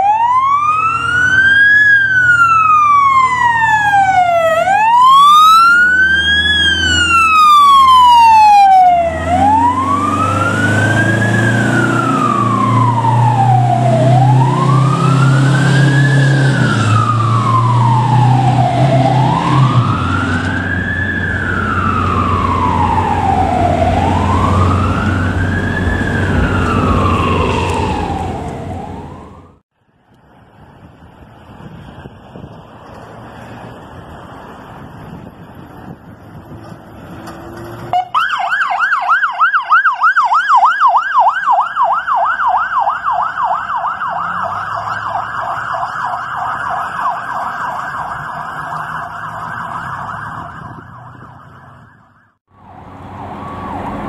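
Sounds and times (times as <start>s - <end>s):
fire truck siren wailing: 0.0s - 29.6s, 37.8s - 54.0s
truck engine rumbling: 0.0s - 38.4s, 40.1s - 54.0s.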